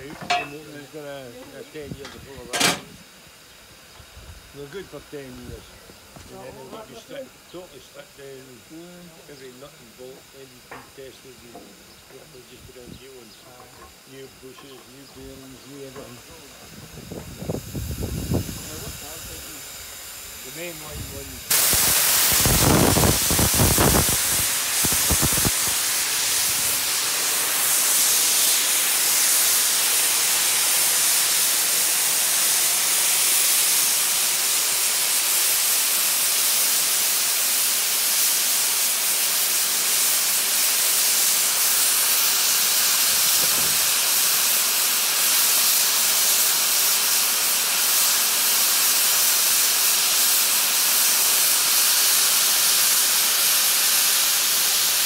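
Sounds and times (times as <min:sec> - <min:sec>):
steam hissing from locomotive: 0:00.0 - 0:55.0.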